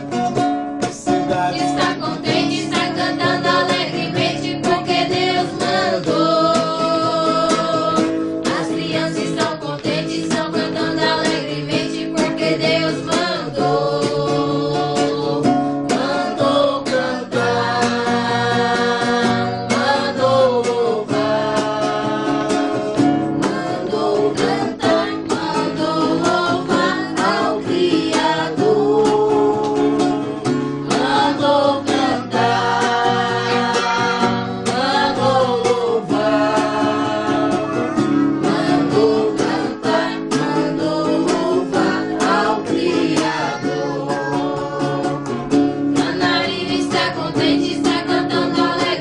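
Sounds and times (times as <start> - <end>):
strummed acoustic guitar: 0.0 - 49.0
group singing a hymn: 1.1 - 49.0.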